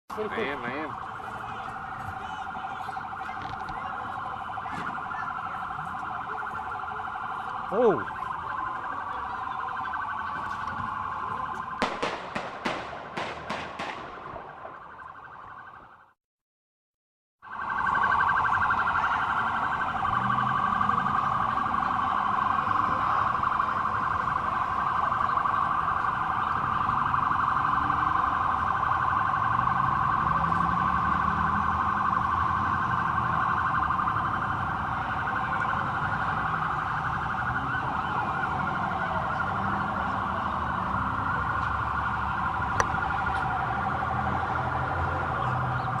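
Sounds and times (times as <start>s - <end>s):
emergency vehicle siren: 0.1s - 16.2s, 17.4s - 46.0s.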